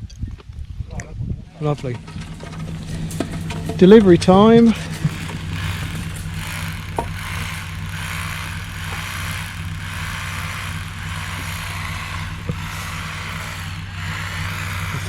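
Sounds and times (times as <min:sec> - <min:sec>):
vehicle engine idling: 0:01.5 - 0:15.0.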